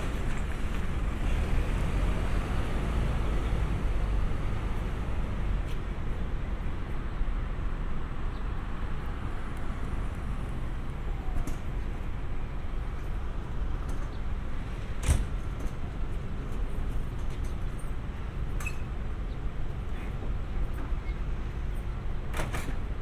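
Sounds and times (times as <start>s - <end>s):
distant vehicles rumbling: 0.0s - 23.0s.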